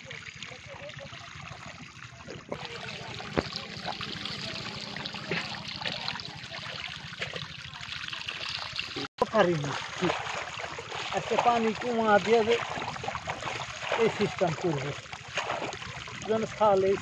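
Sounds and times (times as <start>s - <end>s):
small fish splashing: 0.0s - 16.4s
water running through a chute: 0.0s - 17.0s.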